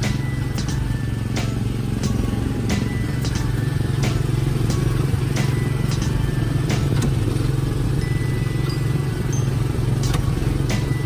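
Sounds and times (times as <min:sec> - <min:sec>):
small gasoline engine running: 0:00.0 - 0:11.0.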